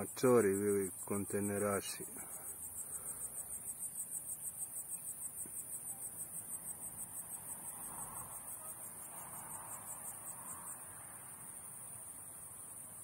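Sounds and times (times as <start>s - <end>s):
insect chirping trill: 0.0s - 13.0s.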